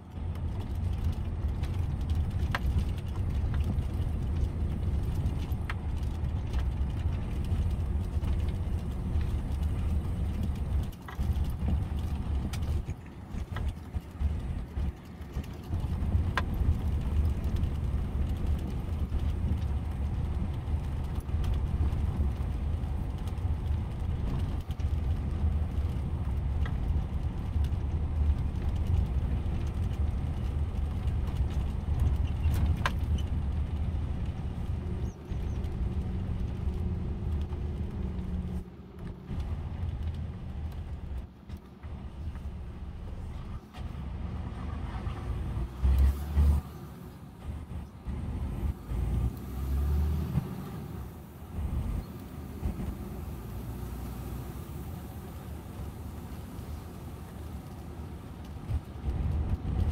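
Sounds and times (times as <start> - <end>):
vehicle engine and tyre rumble: 0.0 - 59.9.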